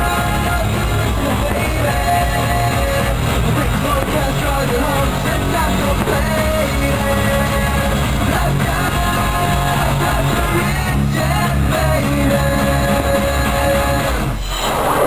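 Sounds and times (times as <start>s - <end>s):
pop-rock song with singing: 0.0s - 15.0s.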